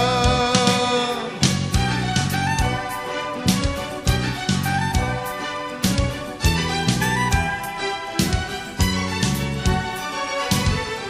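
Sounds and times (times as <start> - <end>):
strong bass notes: 0.0 - 10.0
band music with steady beat: 0.0 - 11.0.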